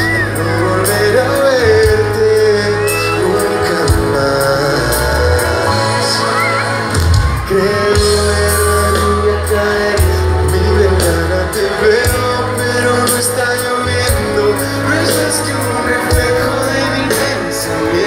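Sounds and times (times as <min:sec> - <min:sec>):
crowd voices: 0:00.0 - 0:18.0
live pop band playing: 0:00.0 - 0:18.0.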